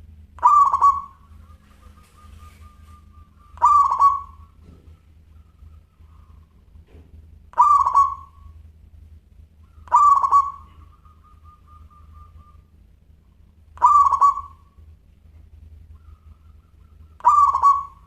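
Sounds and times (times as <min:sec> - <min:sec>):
dove cooing: 0:00.0 - 0:08.6, 0:09.6 - 0:15.1, 0:15.8 - 0:18.0.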